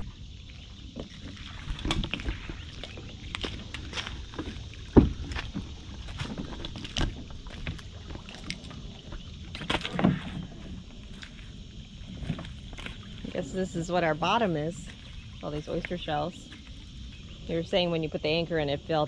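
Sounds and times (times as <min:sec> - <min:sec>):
knocks and thumps on dinghy: 0:00.0 - 0:17.4.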